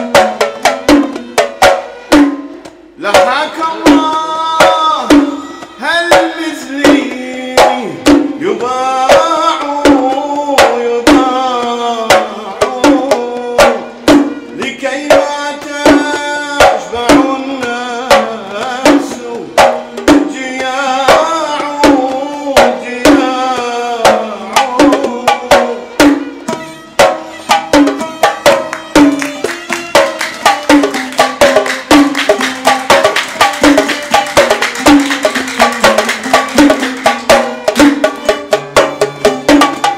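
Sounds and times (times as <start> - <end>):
hand drum strokes: 0.0 - 39.9.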